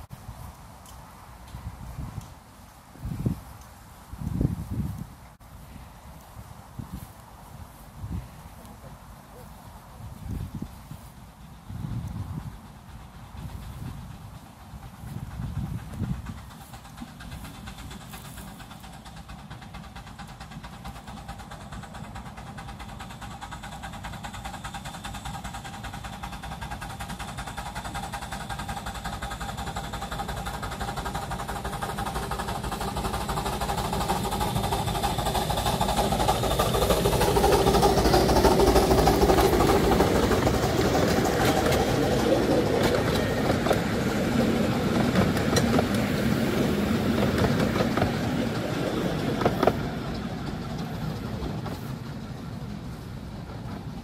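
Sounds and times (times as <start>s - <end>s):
steam locomotive approaching: 0.0s - 54.0s
carriages rolling past: 8.4s - 54.0s.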